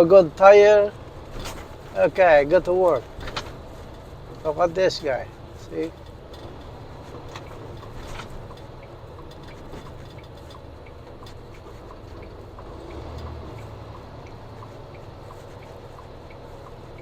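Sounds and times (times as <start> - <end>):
car engine and tyres rumbling: 0.0 - 17.0
faint regular ticking: 0.0 - 17.0.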